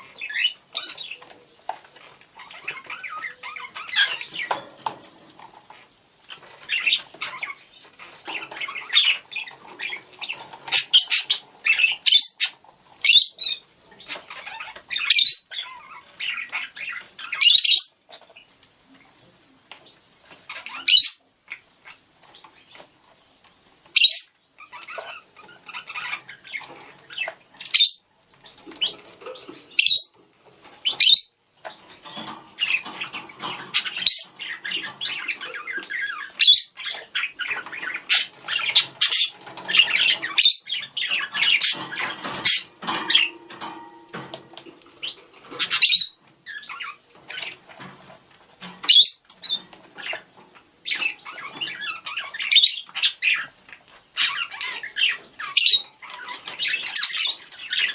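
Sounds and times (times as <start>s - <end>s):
budgerigars chirping and squawking: 0.0s - 18.5s, 19.8s - 23.1s, 23.8s - 57.9s.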